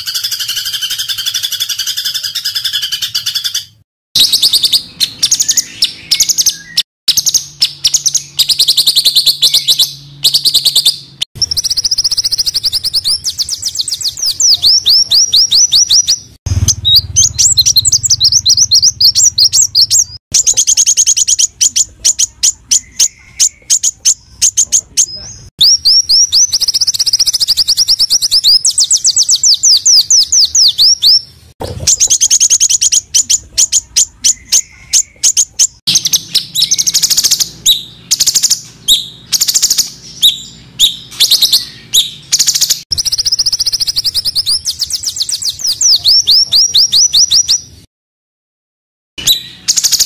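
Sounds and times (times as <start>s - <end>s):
chattering bird trill: 0.0s - 47.9s, 49.2s - 50.0s
songbirds chirping: 0.0s - 47.9s, 49.2s - 50.0s.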